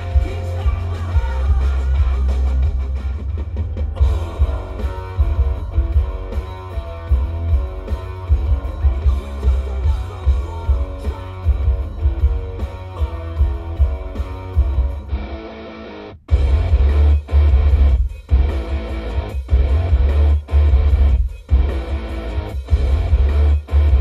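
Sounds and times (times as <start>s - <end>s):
heavy bass pulsing: 0.0s - 24.0s
rock music through subwoofer: 0.0s - 24.0s.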